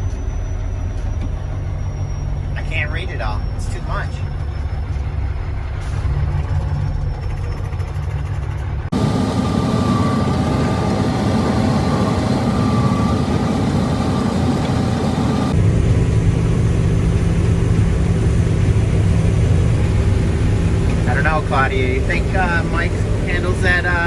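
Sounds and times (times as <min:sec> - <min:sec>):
heavy machinery engine running: 0:00.0 - 0:24.0.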